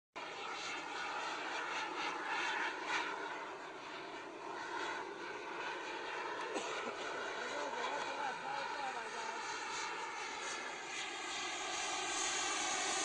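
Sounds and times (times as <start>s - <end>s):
model jet engines rushing: 0.2s - 13.0s.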